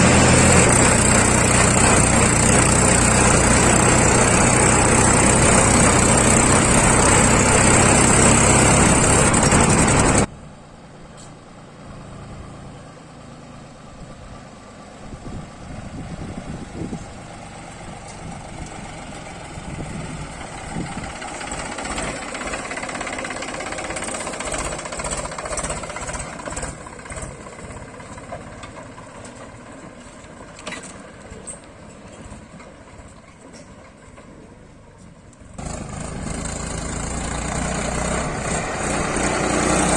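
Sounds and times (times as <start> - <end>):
heavy diesel engine running: 0.0 - 10.7, 13.9 - 31.3, 35.4 - 39.9.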